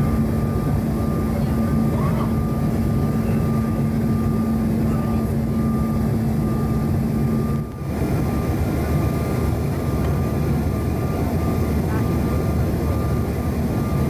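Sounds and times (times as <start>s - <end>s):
aircraft cabin engine noise: 0.0s - 14.0s.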